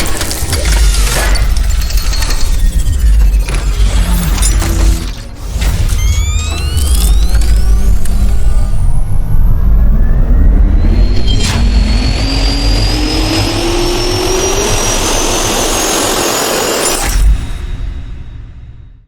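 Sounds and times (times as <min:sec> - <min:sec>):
rushing riser with rising tone: 0:00.2 - 0:17.4.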